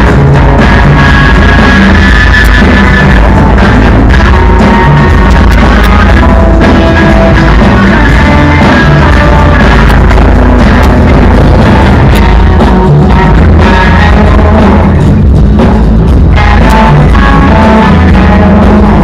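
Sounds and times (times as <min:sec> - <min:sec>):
drum kit: 0:00.0 - 0:19.0
electric guitars: 0:00.0 - 0:19.0
live rock band instrumental: 0:00.0 - 0:19.0.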